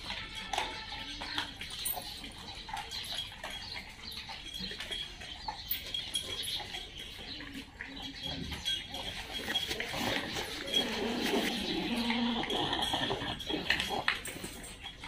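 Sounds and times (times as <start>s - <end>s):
dog claws clicking on tiles: 0.0s - 15.0s.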